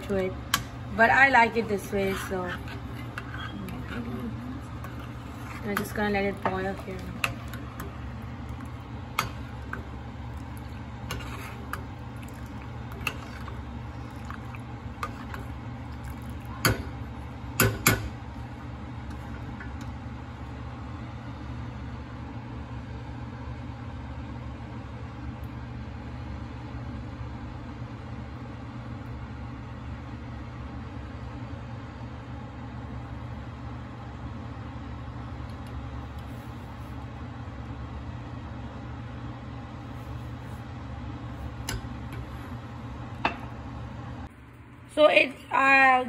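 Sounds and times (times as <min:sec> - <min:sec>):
pot of chai boiling: 0:00.0 - 0:44.9
steady low hum: 0:00.0 - 0:46.0.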